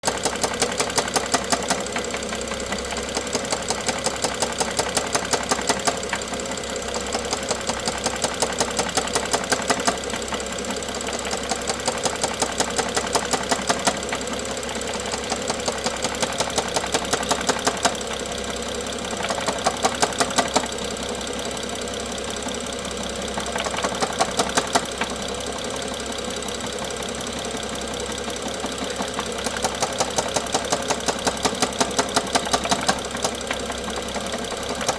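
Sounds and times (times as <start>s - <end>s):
car engine running with knocking: 0.0s - 34.9s.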